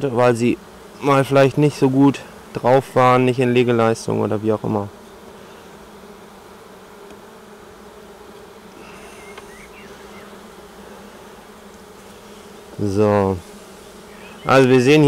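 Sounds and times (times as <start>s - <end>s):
honeybees humming: 0.0s - 15.0s.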